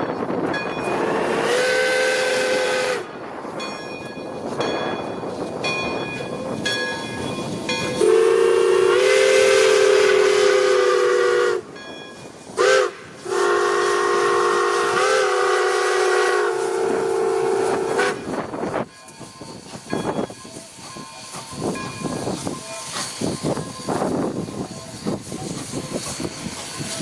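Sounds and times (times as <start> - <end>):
hiss and rumble of moving train: 0.0 - 27.0
steam locomotive chime whistle: 0.5 - 3.1, 5.8 - 25.4.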